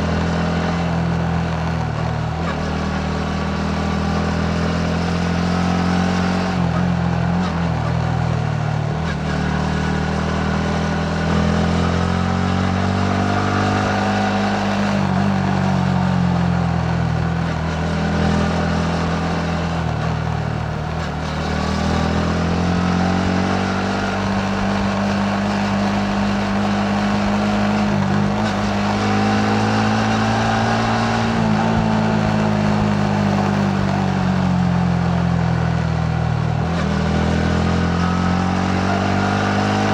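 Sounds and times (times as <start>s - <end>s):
motorcycle engine revving: 0.0s - 39.9s
road and wind noise: 0.0s - 39.9s.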